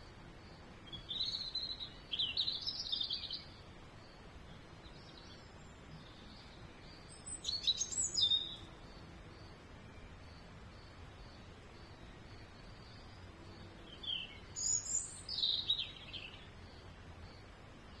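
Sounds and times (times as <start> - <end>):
songbird chirping: 0.0 - 18.0.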